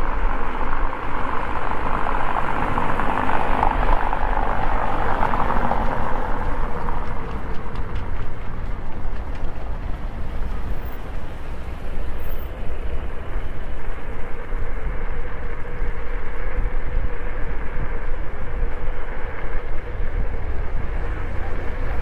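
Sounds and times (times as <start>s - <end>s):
wheel rumble on road: 0.0s - 22.0s
wind rumble on microphone: 0.0s - 22.0s.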